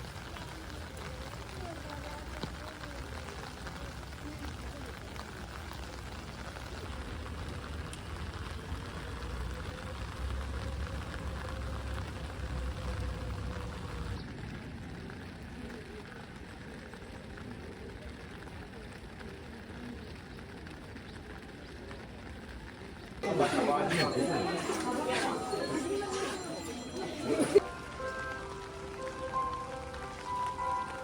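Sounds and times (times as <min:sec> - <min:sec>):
rain pattering: 0:00.0 - 0:31.0.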